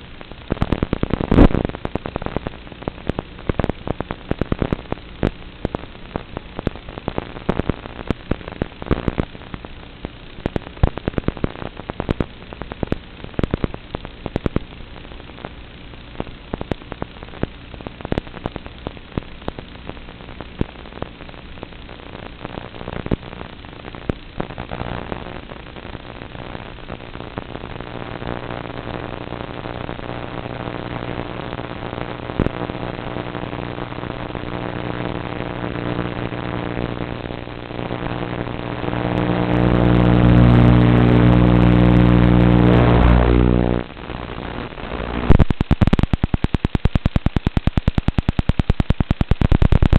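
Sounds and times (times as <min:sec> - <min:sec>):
static hiss and crackle: 0:00.0 - 0:49.9
steady hum with even tones: 0:00.0 - 0:49.9.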